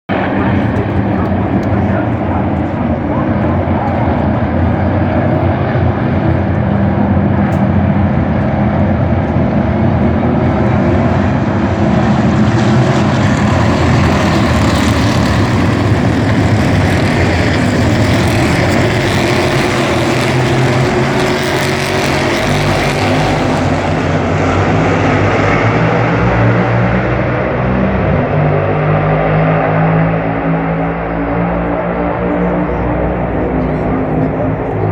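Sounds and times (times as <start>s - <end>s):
race car engines droning: 0.1s - 34.9s.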